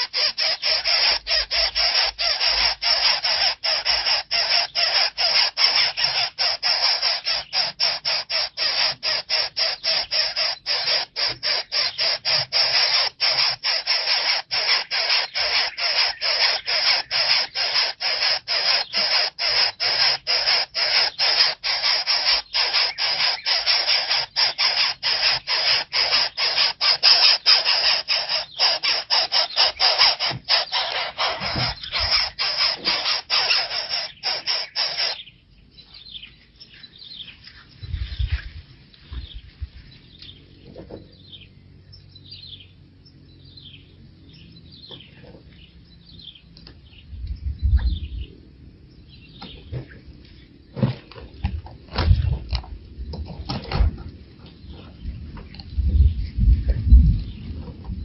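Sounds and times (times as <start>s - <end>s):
nestling birds rasping calls: 0.0s - 58.0s.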